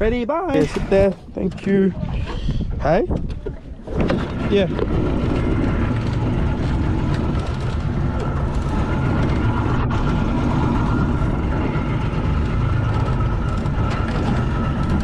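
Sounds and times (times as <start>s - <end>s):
boat motor droning: 0.0s - 15.0s.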